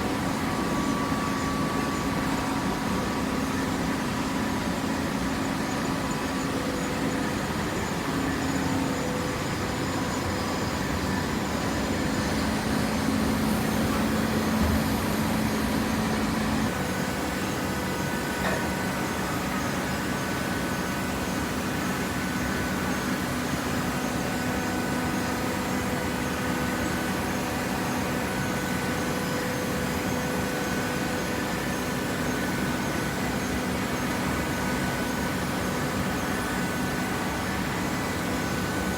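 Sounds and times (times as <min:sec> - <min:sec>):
baler motor and pump humming: 0:00.0 - 0:38.9.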